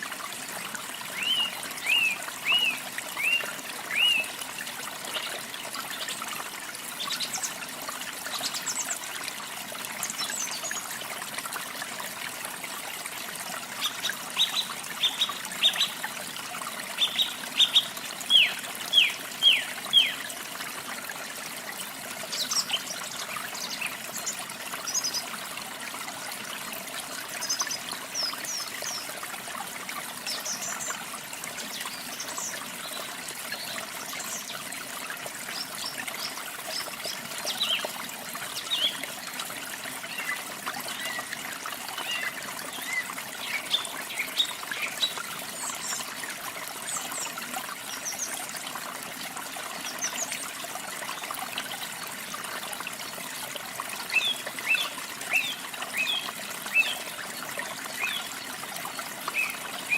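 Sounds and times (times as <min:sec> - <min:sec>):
falling and trickling water: 0:00.0 - 0:59.9.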